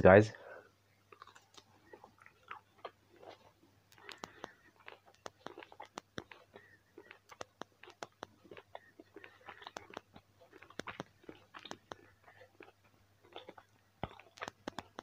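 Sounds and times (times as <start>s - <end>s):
person chewing: 1.0s - 15.0s
wet mouth clicks and smacks: 1.1s - 15.0s.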